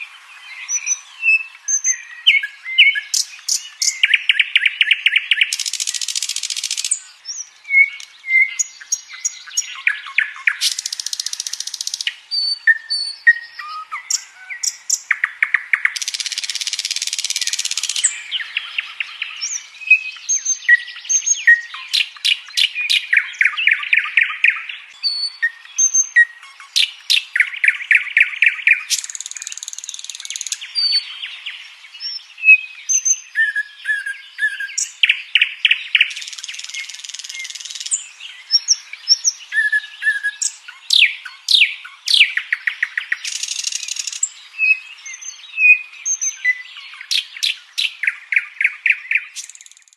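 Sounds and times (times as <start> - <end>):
nightingale singing: 0.0 - 49.9.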